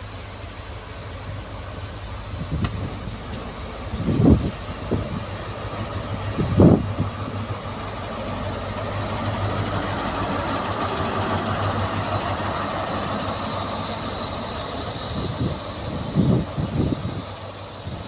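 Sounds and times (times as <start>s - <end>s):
diesel train engine droning: 0.0s - 18.0s.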